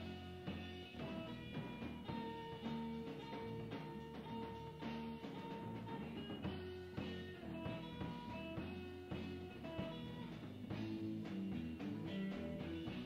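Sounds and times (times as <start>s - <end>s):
bass guitar: 0.0s - 13.0s
electric guitar: 0.0s - 13.0s.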